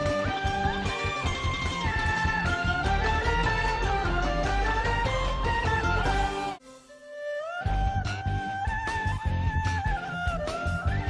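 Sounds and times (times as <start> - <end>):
upbeat stage music: 0.0 - 6.6, 7.6 - 11.0.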